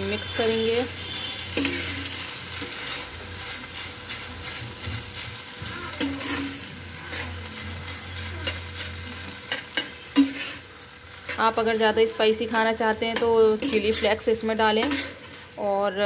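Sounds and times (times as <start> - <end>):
metal spatula scraping a pan: 0.0 - 15.6
noodles sizzling in a wok: 0.0 - 16.0.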